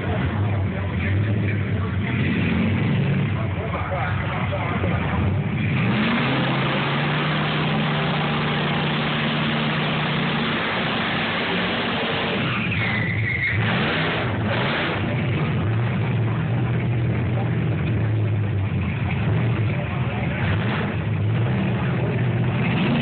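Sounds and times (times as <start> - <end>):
engine at high revs: 0.0 - 12.9, 13.5 - 23.0
tires spinning on track: 0.0 - 23.0.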